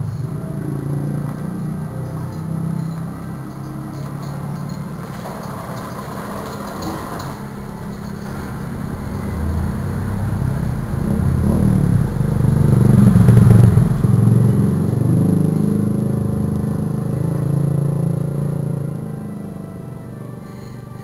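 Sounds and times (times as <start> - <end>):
vehicle engine passing by: 0.0 - 21.0.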